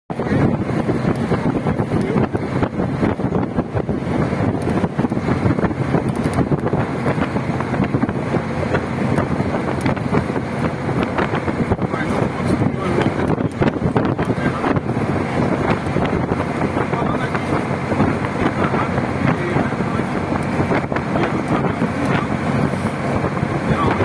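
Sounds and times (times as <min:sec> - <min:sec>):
wind buffeting microphone: 0:00.1 - 0:24.0.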